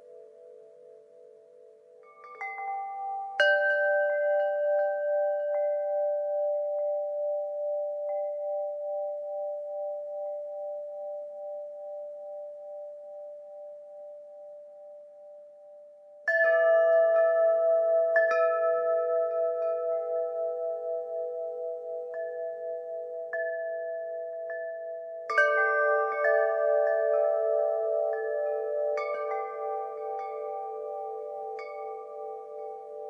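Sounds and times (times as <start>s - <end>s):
wind chimes ringing: 0.0s - 14.8s, 16.2s - 33.0s.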